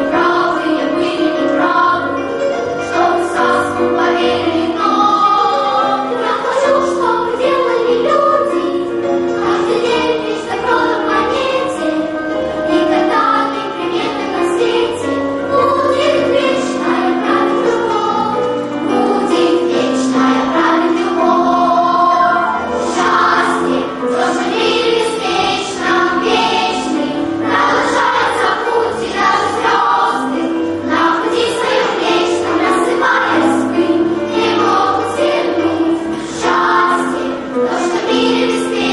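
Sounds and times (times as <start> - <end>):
children's choir singing: 0.0 - 38.9.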